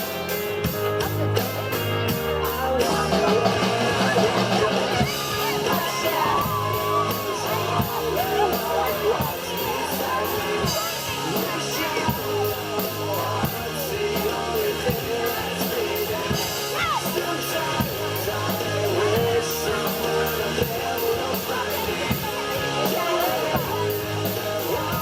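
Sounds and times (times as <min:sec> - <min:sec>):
singing voice over a beat: 0:00.0 - 0:25.0.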